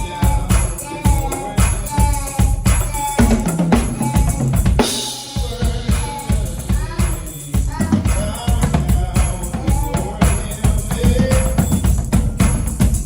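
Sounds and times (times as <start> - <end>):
drum kit playing a steady beat: 0.0 - 13.0
sustained pitched instruments: 0.0 - 13.0.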